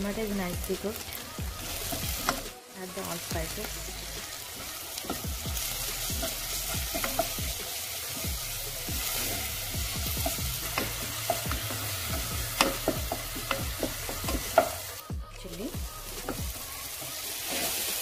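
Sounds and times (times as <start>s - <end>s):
masala sizzling in hot oil: 0.0s - 18.0s.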